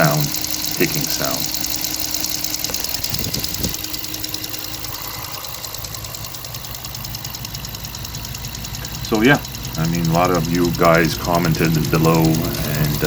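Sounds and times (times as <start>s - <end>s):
car engine idling: 0.0s - 13.0s
fast even engine ticking: 0.0s - 13.0s.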